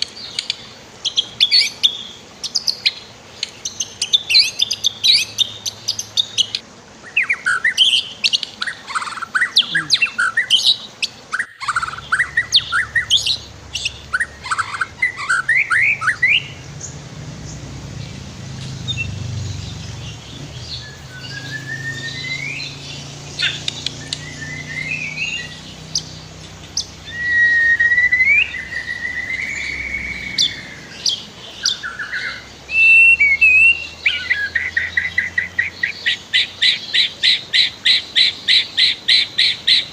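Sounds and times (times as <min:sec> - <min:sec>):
bird singing chirps and whistles: 0:00.0 - 0:39.9
flowing river water: 0:00.0 - 0:39.9.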